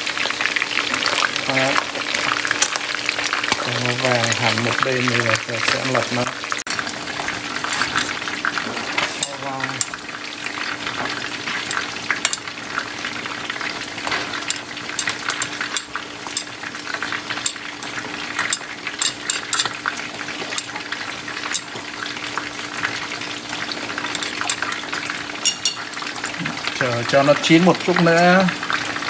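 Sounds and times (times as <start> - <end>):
cabbage boiling in pot: 0.0 - 29.0
fish sizzling and popping in oil: 0.0 - 29.0.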